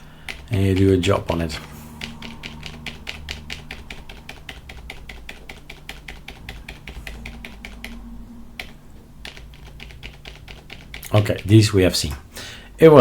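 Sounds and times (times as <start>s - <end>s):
fast keyboard typing: 0.0s - 8.0s, 8.6s - 11.7s.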